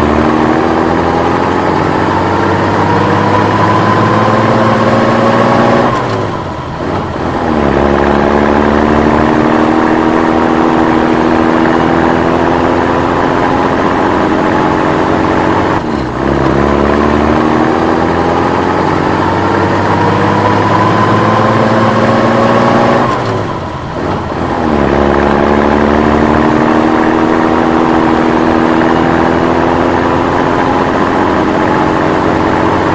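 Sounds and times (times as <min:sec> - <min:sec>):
truck engine shifting gears: 0:00.0 - 0:32.9.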